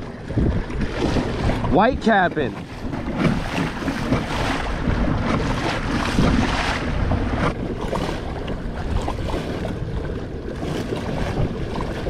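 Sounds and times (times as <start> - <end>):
choppy water slapping hull: 0.0 - 12.0
wind buffeting microphone: 0.0 - 12.0.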